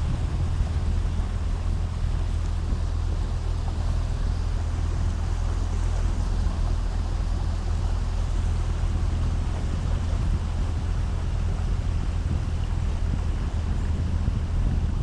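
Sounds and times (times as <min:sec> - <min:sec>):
boat motor droning: 0:00.0 - 0:15.0
rushing water: 0:00.0 - 0:15.0
wind: 0:00.0 - 0:15.0.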